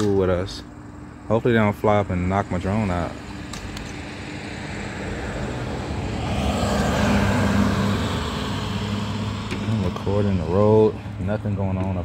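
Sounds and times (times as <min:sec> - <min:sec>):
road vehicle passing by: 0:02.4 - 0:12.0.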